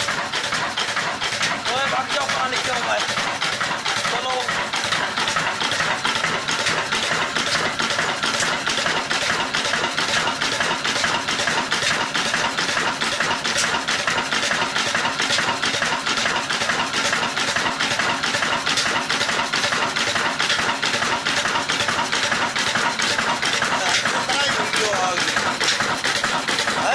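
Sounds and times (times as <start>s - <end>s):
stationary diesel engine running: 0.0s - 26.9s.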